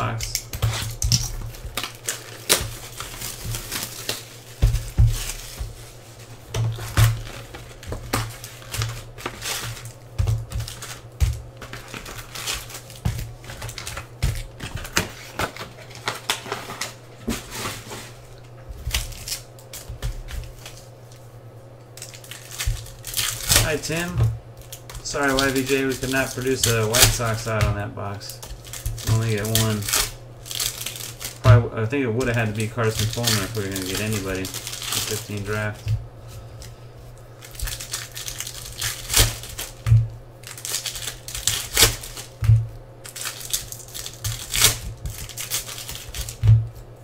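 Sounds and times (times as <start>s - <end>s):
hands handling card packs: 0.0s - 46.8s
steady low hum: 0.0s - 47.0s.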